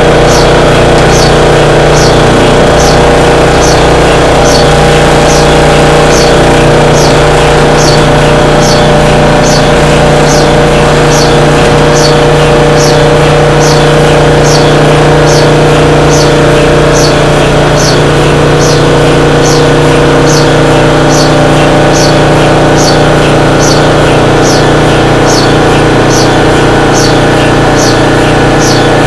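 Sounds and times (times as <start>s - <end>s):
electric motor humming: 0.0s - 29.0s.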